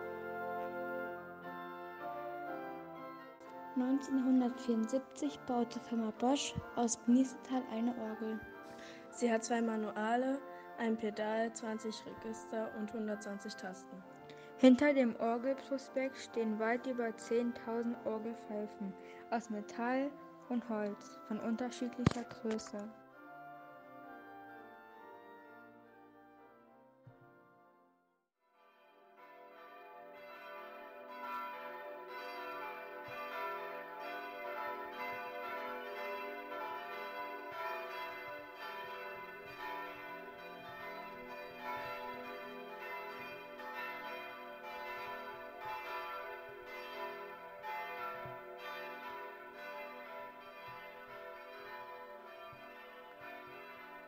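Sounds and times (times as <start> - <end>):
church bells pealing: 0.0 - 26.9, 28.6 - 54.0.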